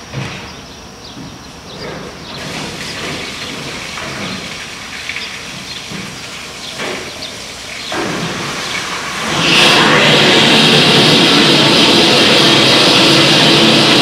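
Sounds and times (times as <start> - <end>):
steam locomotive hissing: 2.2 - 14.0.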